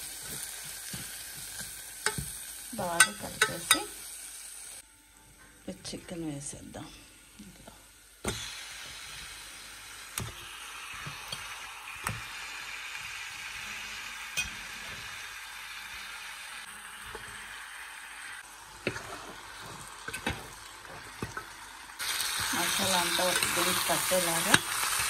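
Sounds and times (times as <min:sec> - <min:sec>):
chicken sizzling in hot oil: 0:00.0 - 0:04.8, 0:07.9 - 0:25.0.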